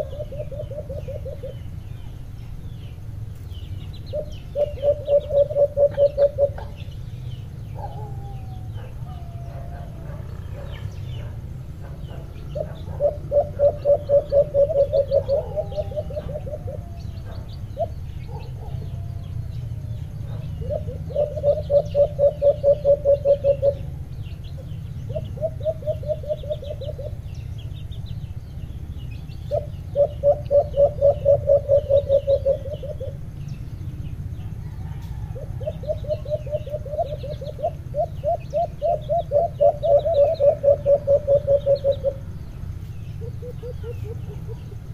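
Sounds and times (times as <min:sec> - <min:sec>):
doves cooing: 0:00.0 - 0:44.9
small birds chirping: 0:00.0 - 0:44.9.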